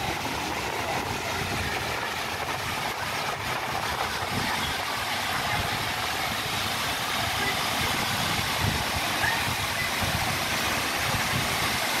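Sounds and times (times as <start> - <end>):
fountain water splashing: 0.0 - 12.0
low uneven rumble: 0.0 - 12.0.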